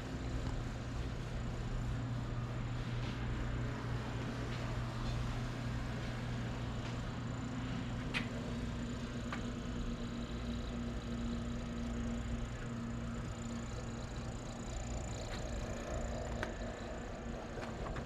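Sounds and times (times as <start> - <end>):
boiler room machinery humming: 0.0 - 18.0.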